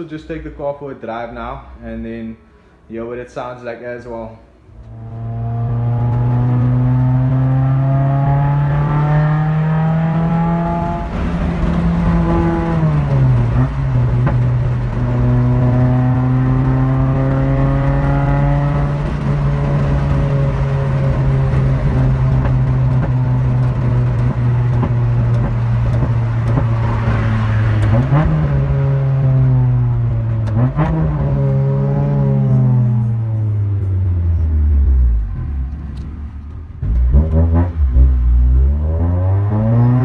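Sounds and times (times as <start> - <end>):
car engine running: 4.6 - 40.0.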